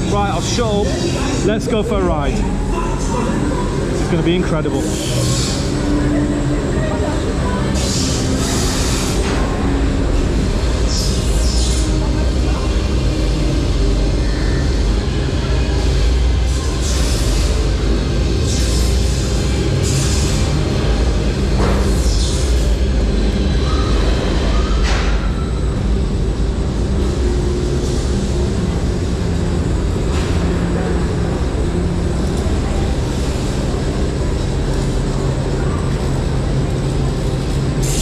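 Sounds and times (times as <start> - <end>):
coaster train rumbling: 0.0 - 38.0.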